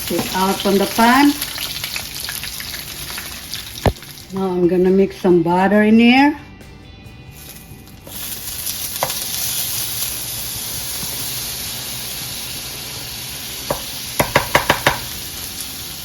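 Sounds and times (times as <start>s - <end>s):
butter sizzling in a frying pan: 0.0s - 4.8s, 7.3s - 16.0s.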